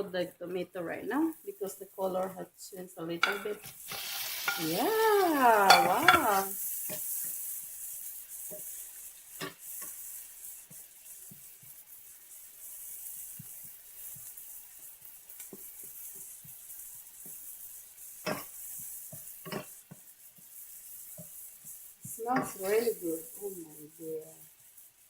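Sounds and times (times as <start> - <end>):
vegetables sizzling in a pan: 0.0 - 25.0
utensil scraping a pan: 3.2 - 25.0.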